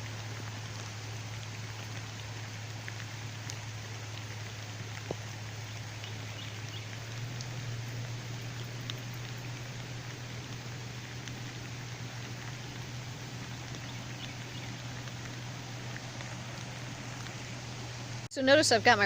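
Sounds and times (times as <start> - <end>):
faint ticks: 0.0 - 18.3
light rain falling: 0.0 - 19.0
low hum: 0.0 - 19.0.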